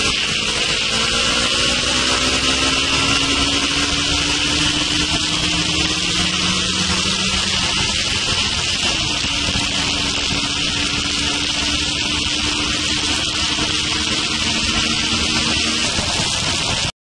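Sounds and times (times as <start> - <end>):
motorcycle engine running: 0.0 - 16.9
wind rushing on microphone: 0.0 - 16.9.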